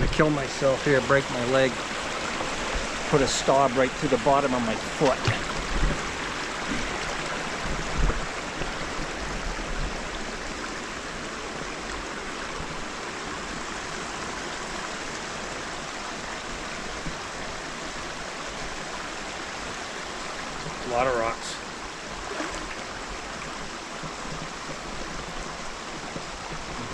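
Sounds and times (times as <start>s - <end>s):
river water over rocks: 0.0s - 26.9s.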